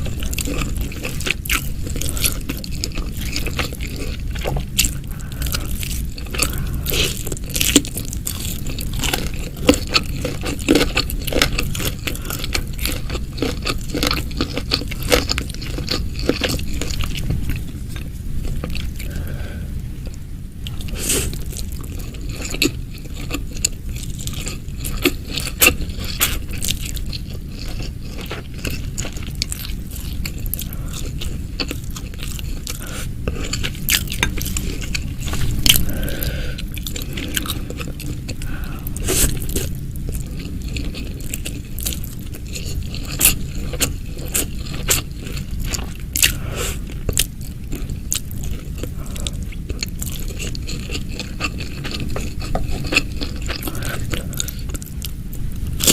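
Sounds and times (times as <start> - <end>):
person chewing and crunching: 0.0 - 55.9.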